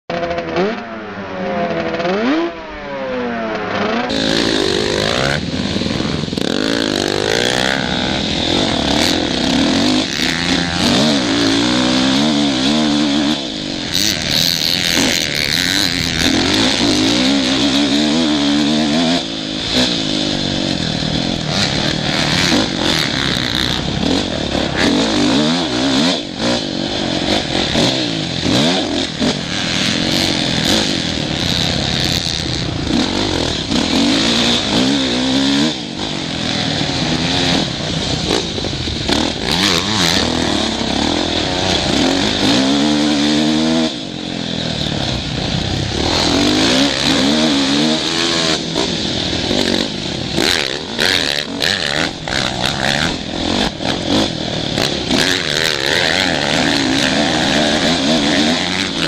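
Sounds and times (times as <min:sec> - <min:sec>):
motocross bike engine revving: 0:00.1 - 0:59.0.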